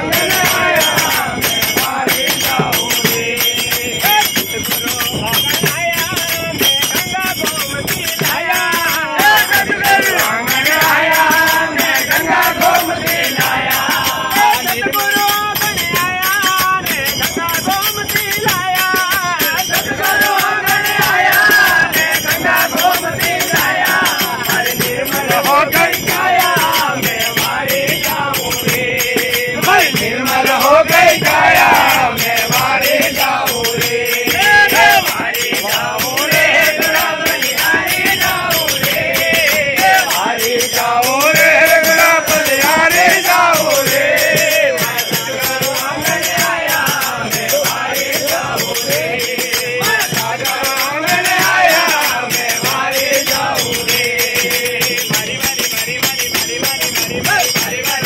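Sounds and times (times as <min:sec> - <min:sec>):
men singing together: 0:00.0 - 0:58.0
small hand cymbals: 0:00.0 - 0:58.0.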